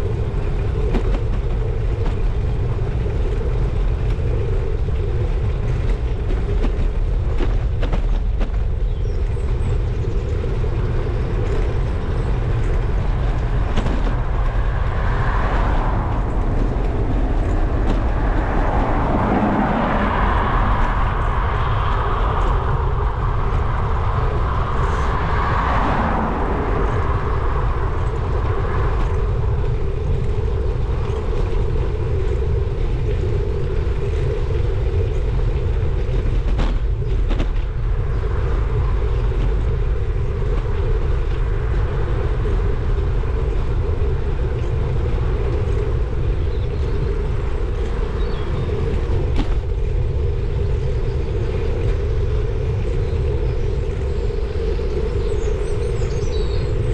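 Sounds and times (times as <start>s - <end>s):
tyre and road noise: 0.0s - 56.9s
wind buffeting microphone: 0.0s - 56.9s.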